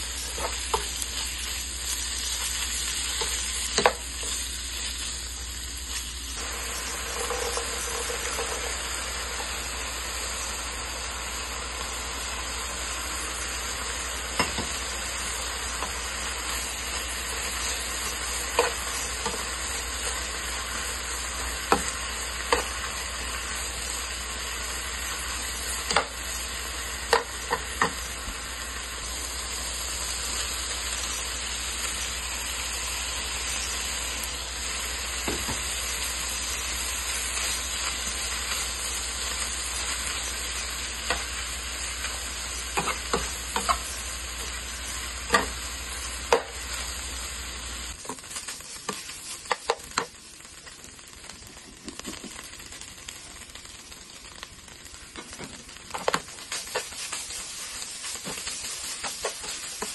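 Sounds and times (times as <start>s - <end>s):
meat sizzling in a pan: 0.0s - 59.9s.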